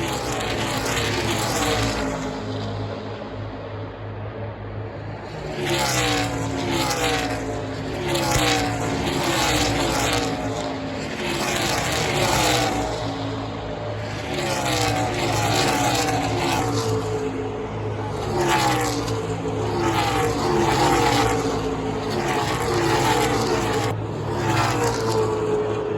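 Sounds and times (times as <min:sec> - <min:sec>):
race cars passing by: 0:00.0 - 0:25.9.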